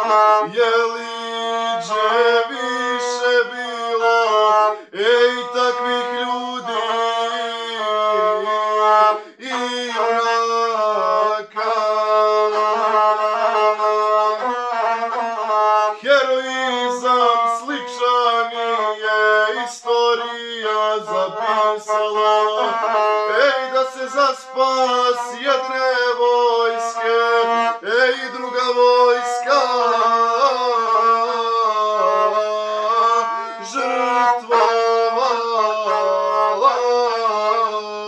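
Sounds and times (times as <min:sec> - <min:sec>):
bowed one-string fiddle: 0:00.0 - 0:38.0
man singing epic song: 0:00.0 - 0:38.0.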